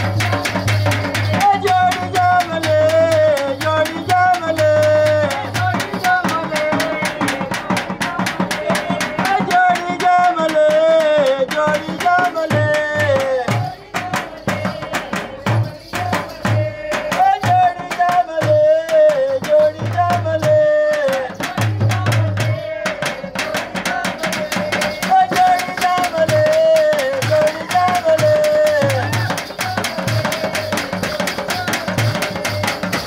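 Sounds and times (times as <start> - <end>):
hand drums beating: 0.0 - 33.0.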